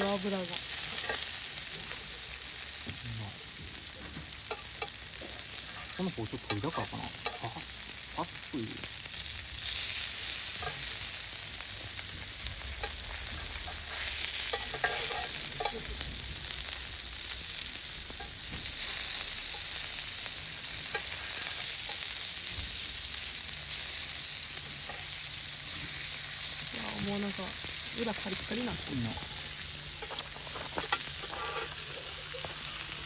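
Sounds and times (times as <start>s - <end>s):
meat sizzling on a griddle: 0.0s - 33.0s.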